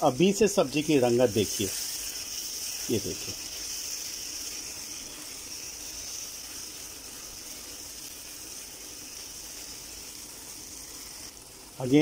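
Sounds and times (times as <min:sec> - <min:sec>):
spatula stirring in a pan: 0:00.0 - 0:11.8
food sizzling in oil: 0:00.0 - 0:12.0.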